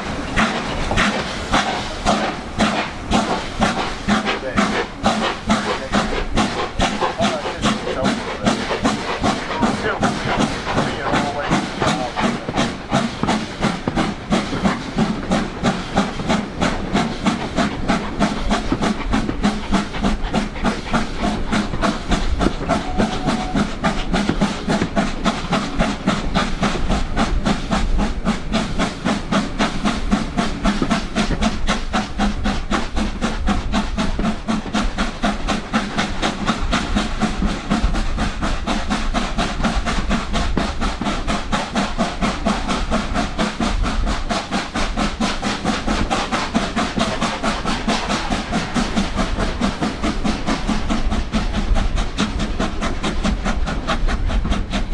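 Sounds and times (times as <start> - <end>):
steam hissing: 0.0 - 54.9
steam locomotive exhaust beats: 0.0 - 54.9.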